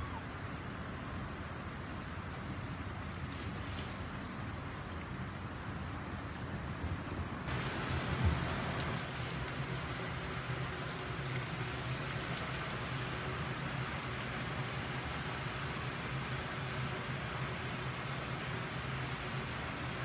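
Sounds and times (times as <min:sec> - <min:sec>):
water hissing like rain: 0:00.0 - 0:20.0.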